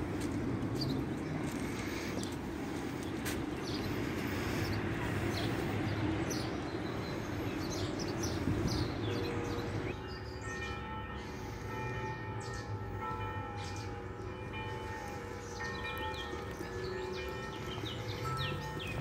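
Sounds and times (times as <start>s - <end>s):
distant traffic rumble: 0.0s - 19.0s
birds chirping: 0.7s - 19.0s.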